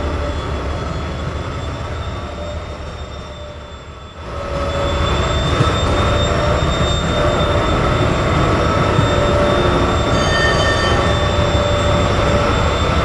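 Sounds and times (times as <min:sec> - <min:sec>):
diesel locomotive engine running: 0:00.0 - 0:13.0
high whine: 0:00.0 - 0:13.0.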